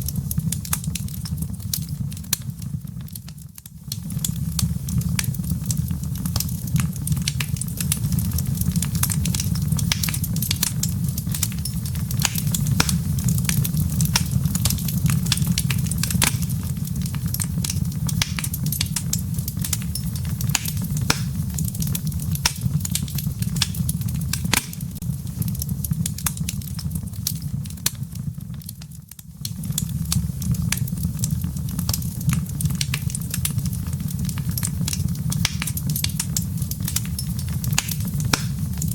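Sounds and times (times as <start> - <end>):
fire popping: 0.0 - 38.9
low rumble of fire: 0.0 - 38.9.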